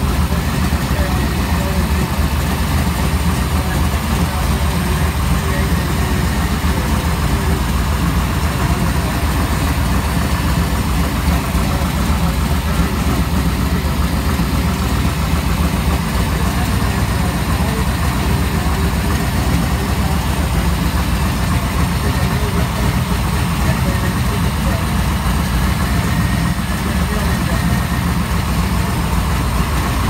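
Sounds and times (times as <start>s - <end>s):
vee eight engine idling: 0.0s - 30.0s.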